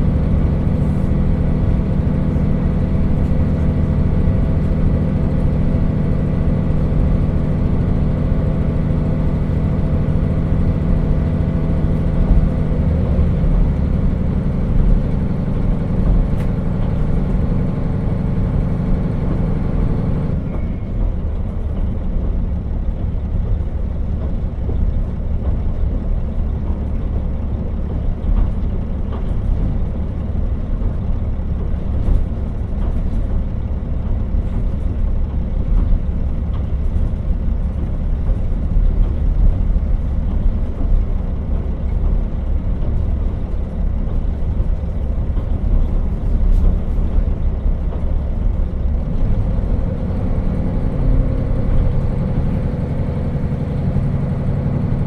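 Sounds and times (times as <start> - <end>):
railcar diesel engine running: 0.0 - 55.0
wheels rumbling on rail: 0.0 - 55.0.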